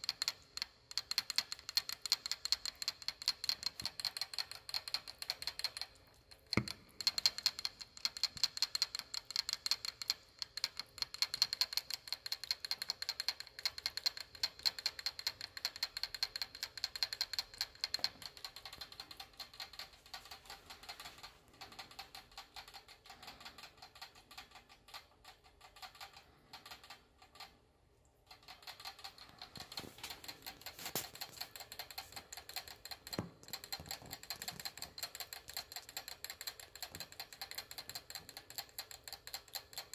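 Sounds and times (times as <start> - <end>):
rat drinking from water bottle: 0.0 - 39.9.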